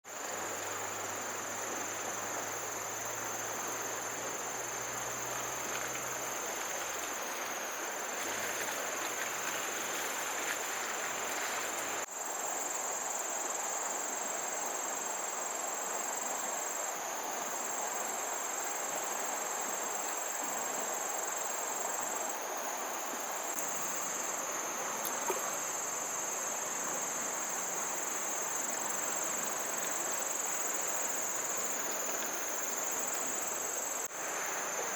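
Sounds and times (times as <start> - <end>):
constant hiss: 0.0 - 34.9
insects trilling: 0.1 - 34.9.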